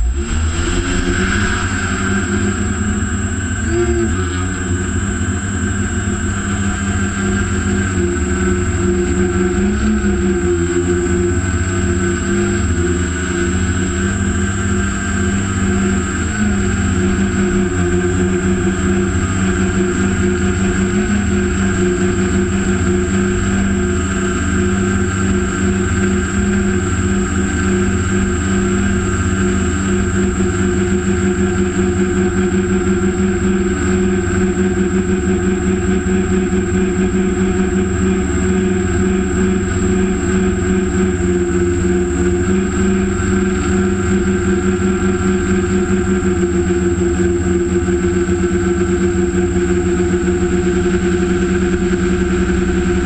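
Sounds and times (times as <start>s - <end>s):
drone motors and propellers droning: 0.0s - 53.0s.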